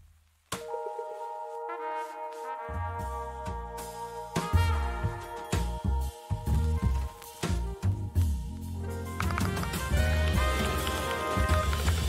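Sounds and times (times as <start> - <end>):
brass tones over bass beat: 0.6 - 12.0.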